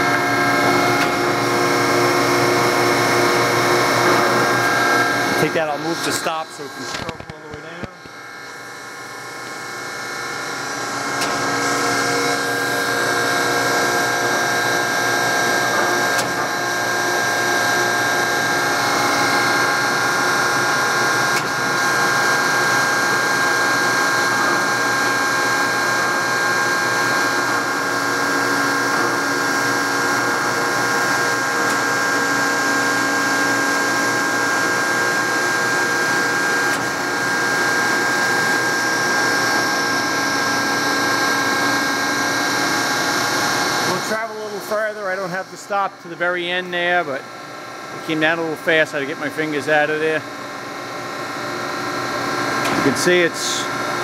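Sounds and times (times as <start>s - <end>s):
knife grinder whining: 0.0s - 54.0s.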